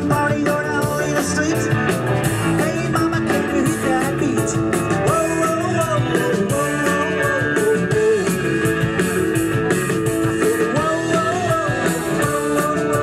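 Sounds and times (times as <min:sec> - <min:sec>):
drum kit: 0:00.0 - 0:13.0
electric guitar: 0:00.0 - 0:13.0
rock band playing live: 0:00.0 - 0:13.0.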